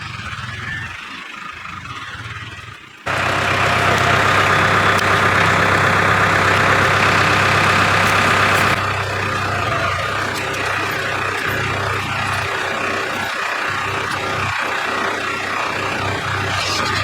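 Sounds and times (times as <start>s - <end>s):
heavy engine running: 0.0s - 17.0s.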